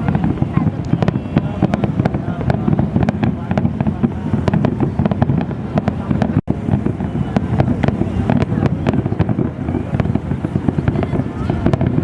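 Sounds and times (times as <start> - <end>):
fireworks cracking and banging: 0.0 - 12.0.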